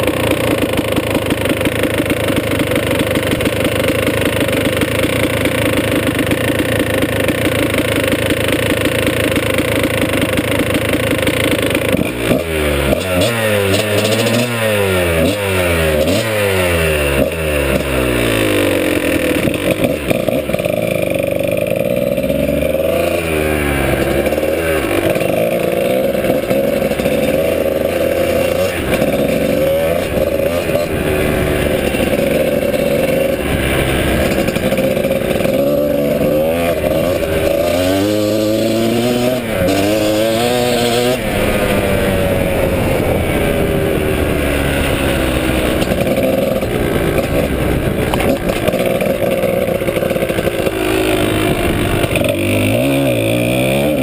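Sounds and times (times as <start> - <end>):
dirt bike engine idling: 0.0 - 54.0
dirt bike revving and shifting gears: 0.0 - 54.0.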